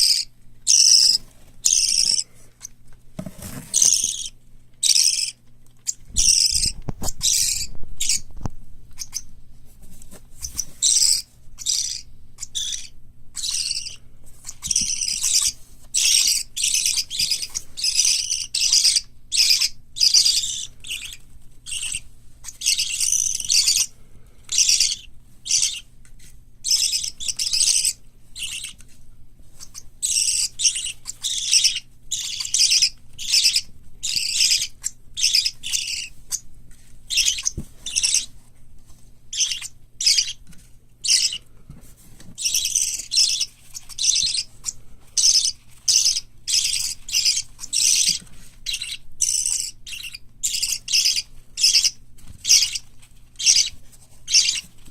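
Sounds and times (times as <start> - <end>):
parrot chicks calling: 0.0 - 2.8, 3.4 - 8.3, 8.9 - 9.3, 10.4 - 28.9, 29.6 - 36.5, 37.1 - 38.4, 39.3 - 41.4, 42.4 - 54.8.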